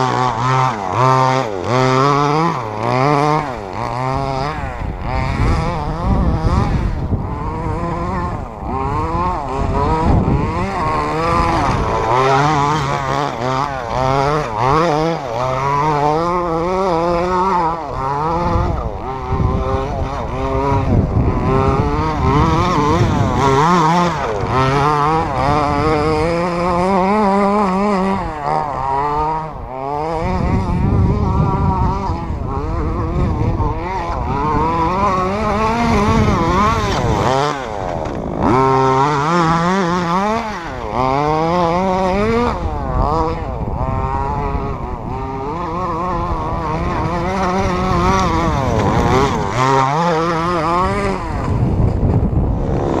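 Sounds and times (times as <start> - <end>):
small high-revving motors: 0.0 - 53.0.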